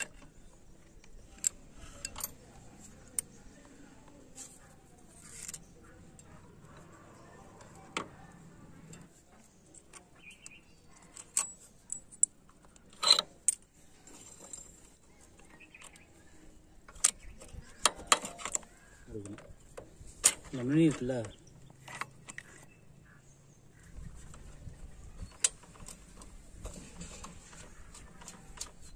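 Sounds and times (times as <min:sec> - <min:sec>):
metal engine parts clinking: 0:00.0 - 0:03.4, 0:04.3 - 0:22.8, 0:24.2 - 0:28.9.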